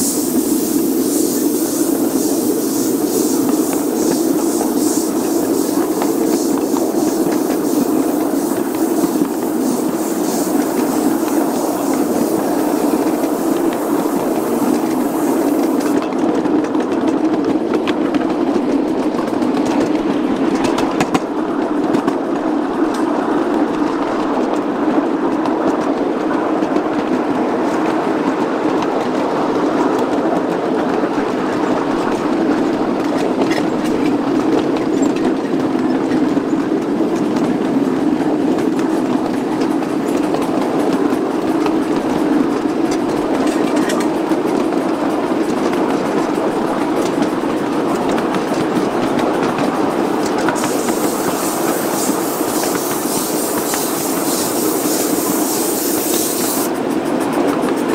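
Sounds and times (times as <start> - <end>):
miniature train wheels on rail: 0.0 - 57.9.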